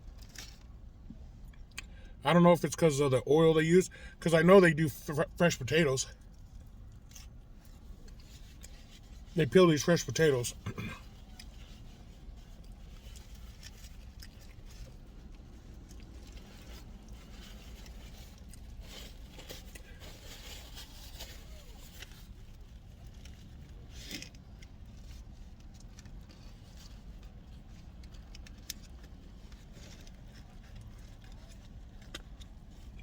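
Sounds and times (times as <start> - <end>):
low hum inside car: 0.0 - 33.0
food wrappers crinkling: 6.3 - 33.0.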